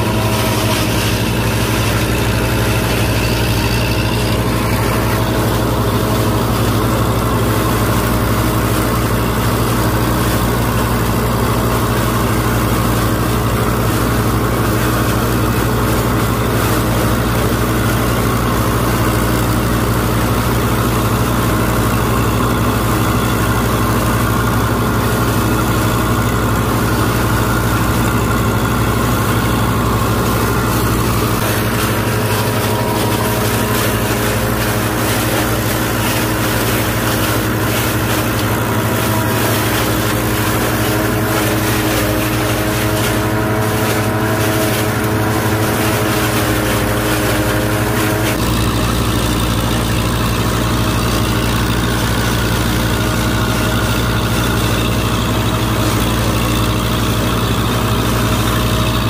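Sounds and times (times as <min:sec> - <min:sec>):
high machine hum: 0:00.0 - 0:59.0
tractor diesel engine running: 0:00.0 - 0:59.0.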